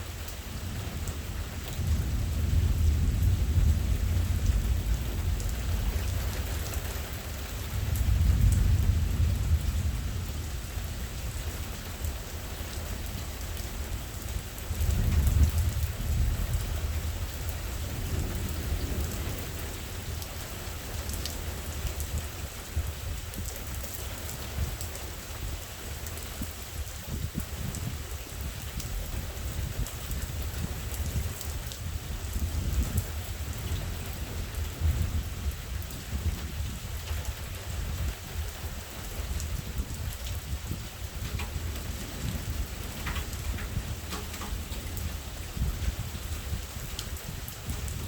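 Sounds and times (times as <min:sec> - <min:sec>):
heavy rain falling: 0:00.0 - 0:48.0
thunder rumbling: 0:00.5 - 0:25.1, 0:26.4 - 0:48.0.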